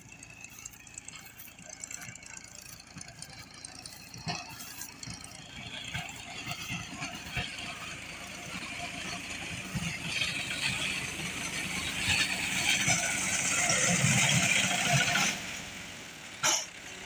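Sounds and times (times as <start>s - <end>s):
rattles: 0.0s - 15.4s
distant harvester engine: 0.0s - 17.0s.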